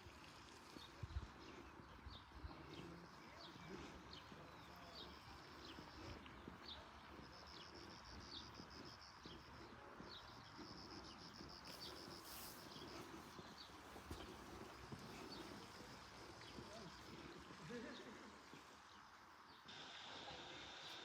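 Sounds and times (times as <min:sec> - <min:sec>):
small birds chirping: 0:00.2 - 0:19.9.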